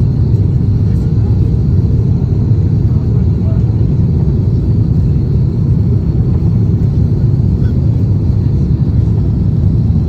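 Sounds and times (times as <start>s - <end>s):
airliner engines rumbling: 0.0s - 10.0s.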